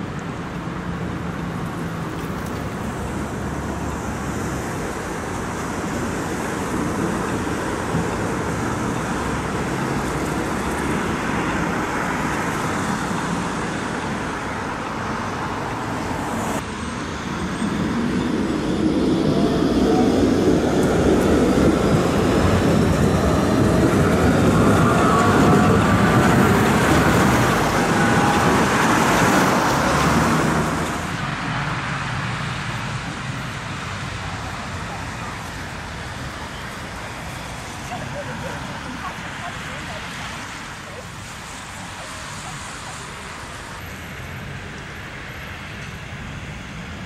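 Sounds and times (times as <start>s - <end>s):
road traffic noise: 0.0s - 47.0s
tram wheels rumbling on rails: 0.0s - 47.0s
tram motors whining: 1.0s - 47.0s.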